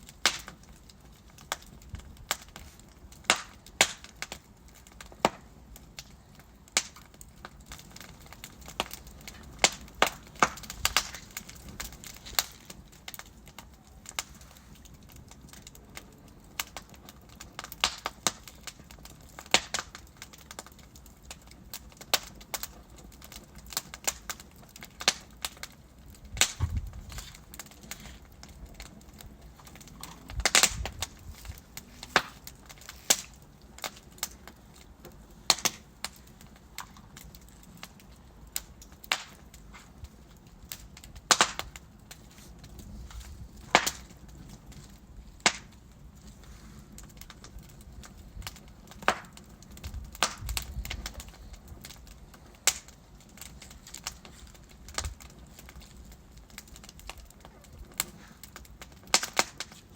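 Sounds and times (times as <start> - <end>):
fireplace logs crackling: 0.0 - 59.9.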